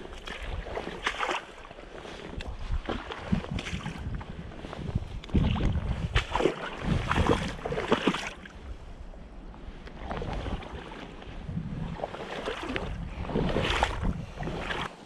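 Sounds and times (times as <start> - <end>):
steps splashing in shallow water: 0.0 - 8.8, 9.7 - 15.0
wind rumbling on microphone: 0.0 - 15.0.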